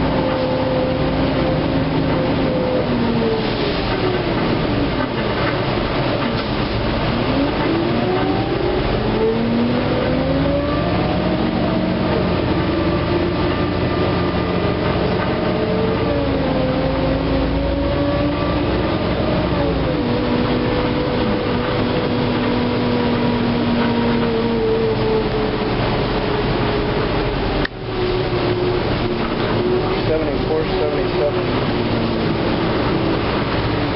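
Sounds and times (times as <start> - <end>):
bus engine and drivetrain whine: 0.0 - 33.9
road rumble: 0.0 - 33.9.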